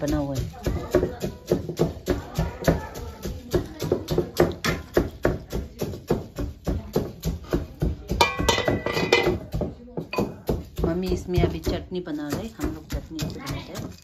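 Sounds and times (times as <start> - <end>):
pounding in a mortar: 0.0 - 14.0.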